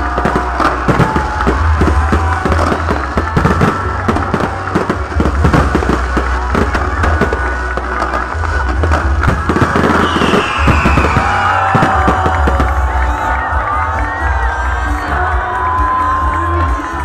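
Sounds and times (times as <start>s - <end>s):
firework crackles: 0.0s - 17.0s
fireworks bursting: 0.0s - 17.0s.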